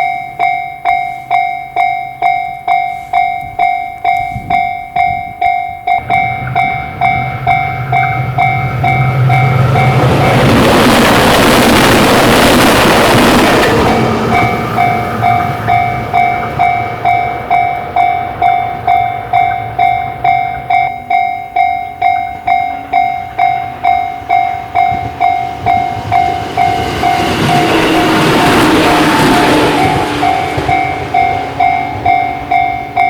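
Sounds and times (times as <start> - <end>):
approaching train: 0.0 - 33.0
level-crossing alarm ringing: 0.0 - 33.0
train passing: 0.0 - 33.0.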